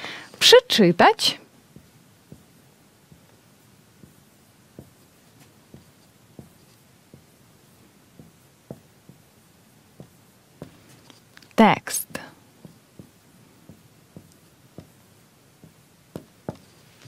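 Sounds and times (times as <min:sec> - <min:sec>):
marker writing on whiteboard: 0:01.7 - 0:11.3, 0:12.1 - 0:17.0.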